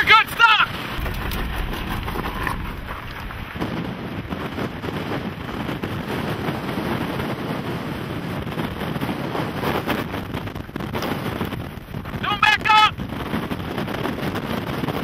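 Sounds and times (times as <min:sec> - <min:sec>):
strong gusty wind buffeting microphone: 0:00.0 - 0:15.0.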